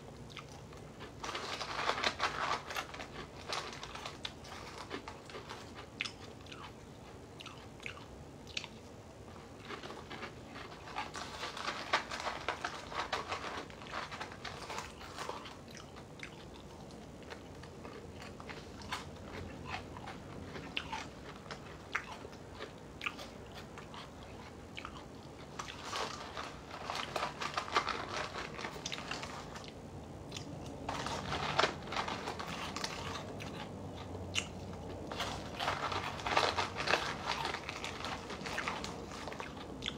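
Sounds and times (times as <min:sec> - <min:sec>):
dry cereal being crunched: 0:00.7 - 0:06.8, 0:09.3 - 0:39.9.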